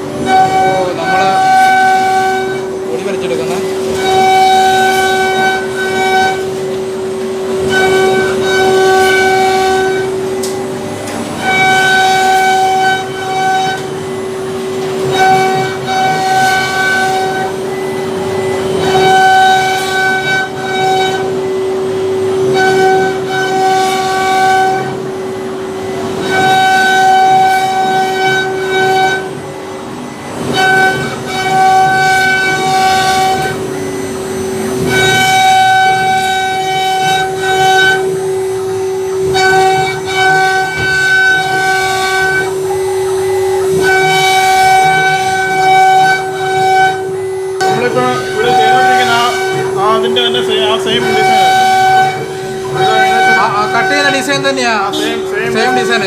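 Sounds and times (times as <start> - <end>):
higher cycling whine: 0.0 - 56.0
router spindle whine: 0.0 - 56.0.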